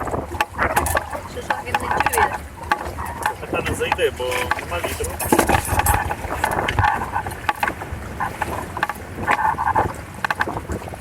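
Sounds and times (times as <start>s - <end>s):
water slapping against hulls: 0.0s - 11.0s
wind buffeting microphone: 0.0s - 11.0s.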